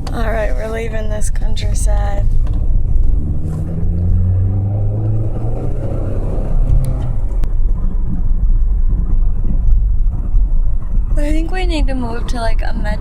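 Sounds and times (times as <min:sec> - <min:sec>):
car engine hum: 0:00.0 - 0:13.0
road rumble: 0:00.0 - 0:13.0.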